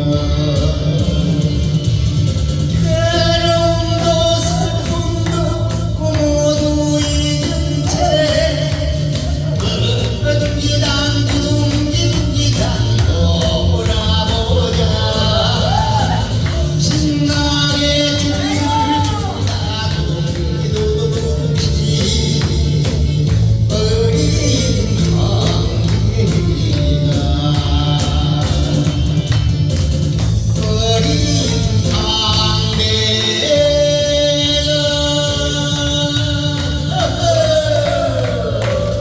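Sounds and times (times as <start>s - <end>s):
upbeat song with dance beat: 0.0s - 39.0s.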